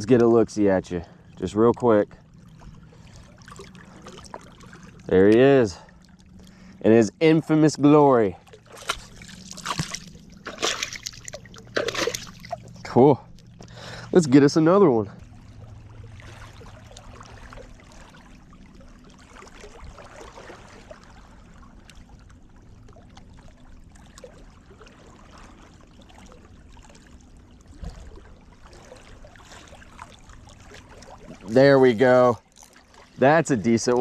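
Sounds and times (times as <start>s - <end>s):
water lapping at shoreline: 0.0s - 34.0s.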